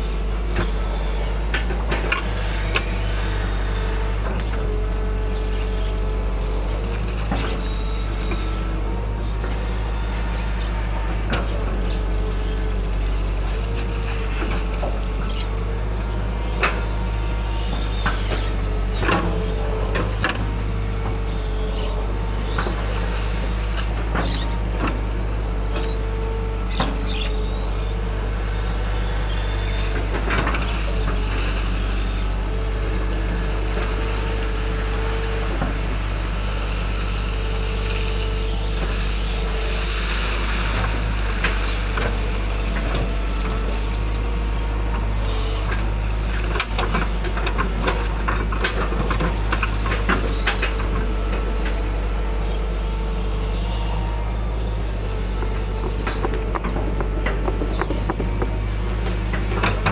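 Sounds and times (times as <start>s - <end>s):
diesel engine drone: 0.0s - 59.9s
hydraulic whine: 0.0s - 59.9s.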